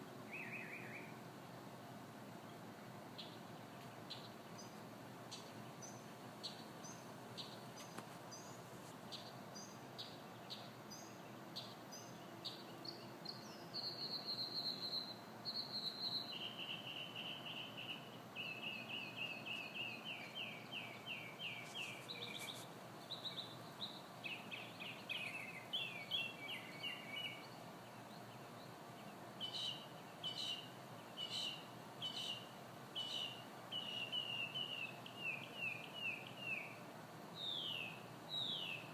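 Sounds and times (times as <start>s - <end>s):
songbird singing: 0.0s - 38.9s
steady background noise: 0.0s - 38.9s.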